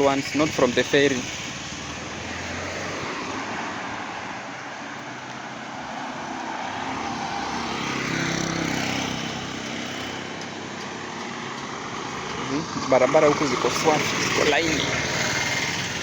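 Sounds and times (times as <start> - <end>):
engine passing: 0.0 - 16.0
wind or road noise: 0.0 - 16.0.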